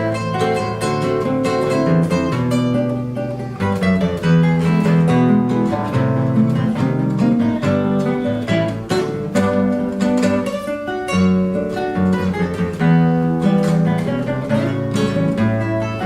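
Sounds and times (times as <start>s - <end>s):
two acoustic guitars playing: 0.0s - 16.0s.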